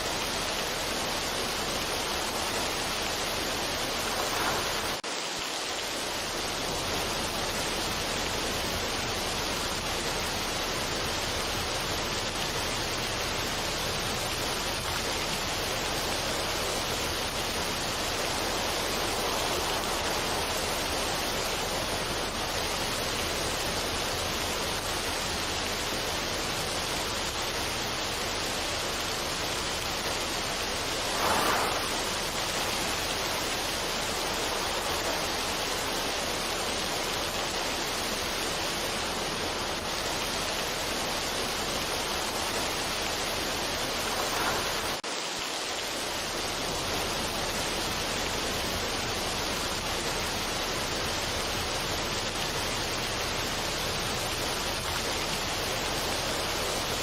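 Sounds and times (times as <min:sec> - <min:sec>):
rushing water hiss: 0:00.0 - 0:57.0.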